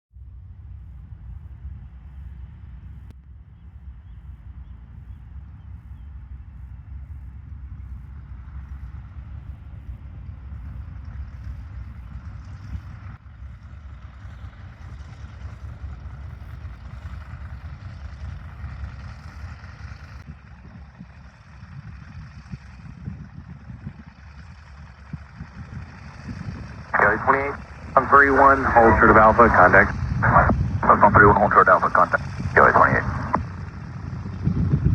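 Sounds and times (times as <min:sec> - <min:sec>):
aircraft engine rumbling: 0:00.2 - 0:34.9.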